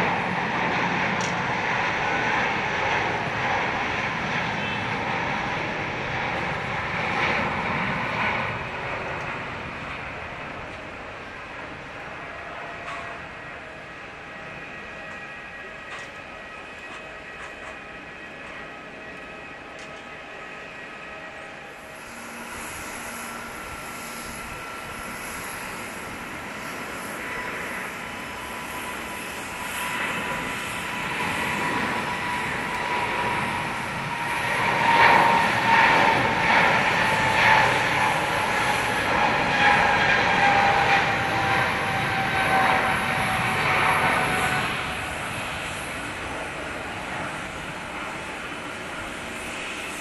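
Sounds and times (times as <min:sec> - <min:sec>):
jet engines passing by: 0:00.0 - 0:50.0.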